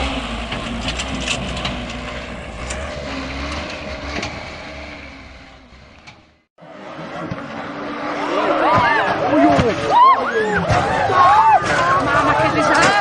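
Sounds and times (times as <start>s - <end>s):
truck diesel engine straining: 0.0s - 13.0s.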